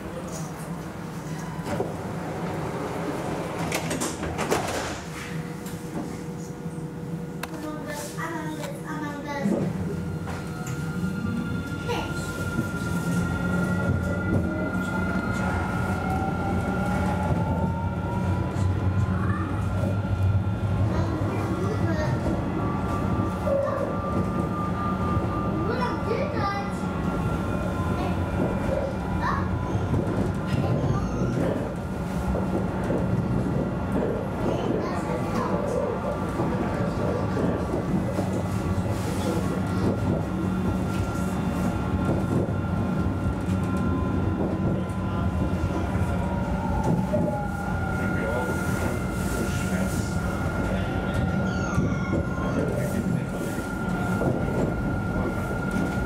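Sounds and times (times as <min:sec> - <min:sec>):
tram rumbling along track: 0:00.0 - 0:56.0.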